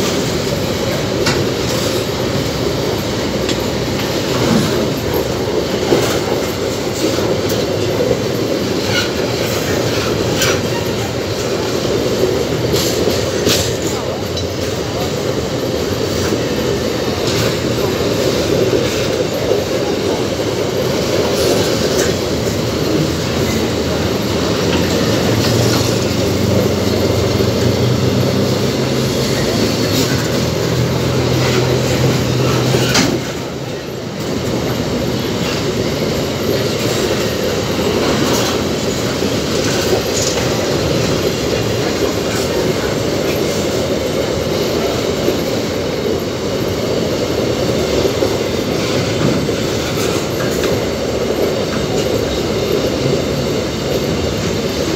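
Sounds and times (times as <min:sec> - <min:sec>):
steel wheels rumbling on rail: 0:00.0 - 0:54.9
wheels clacking over rail joints: 0:00.0 - 0:54.9.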